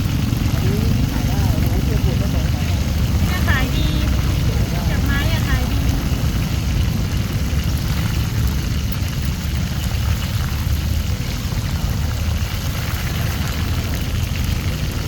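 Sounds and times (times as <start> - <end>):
continuous low rumble: 0.0 - 15.0
hot oil sizzling: 0.0 - 15.0.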